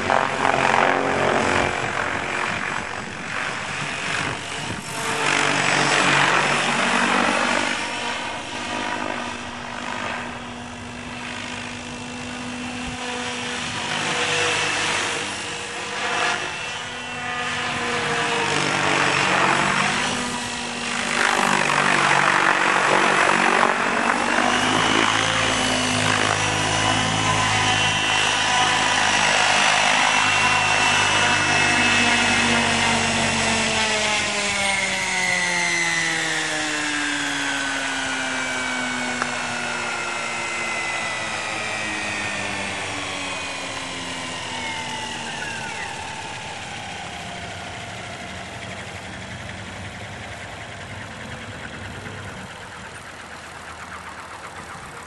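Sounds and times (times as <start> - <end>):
model helicopter rotors whining: 0.0 - 55.0.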